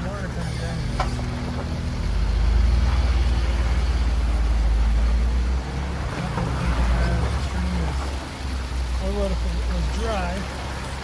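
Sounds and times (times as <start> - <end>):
engine droning under throttle: 0.0 - 11.0.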